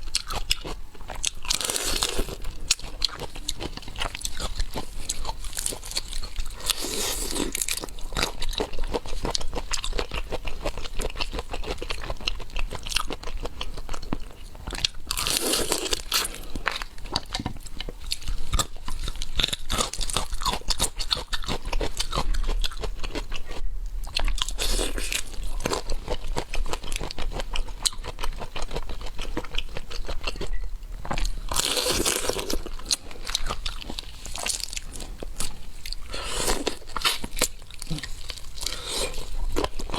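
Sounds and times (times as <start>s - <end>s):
crunching and wet chewing: 0.0s - 39.9s.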